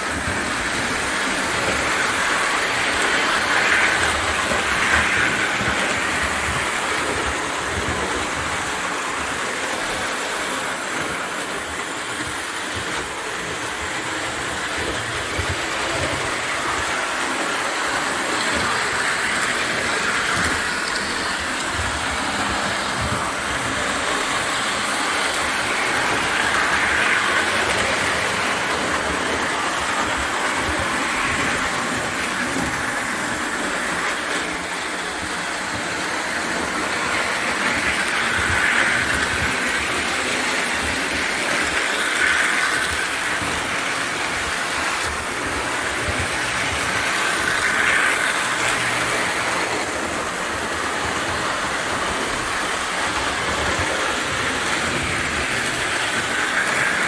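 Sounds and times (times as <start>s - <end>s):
toy train running on track: 0.0s - 57.0s.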